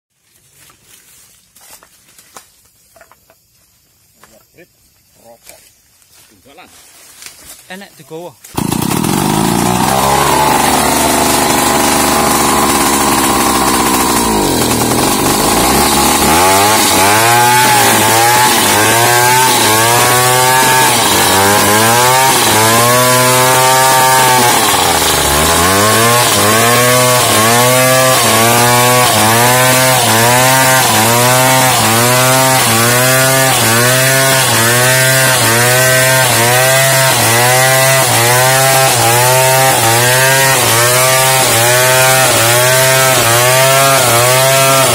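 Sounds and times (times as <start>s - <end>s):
chainsaw cutting wood: 8.4s - 44.9s.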